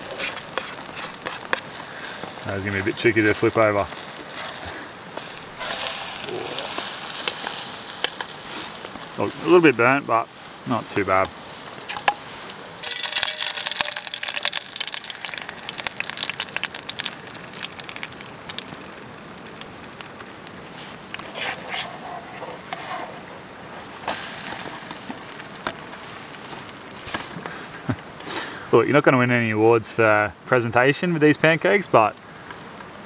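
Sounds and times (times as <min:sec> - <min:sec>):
batter sizzling in hot oil: 0:00.0 - 0:28.6.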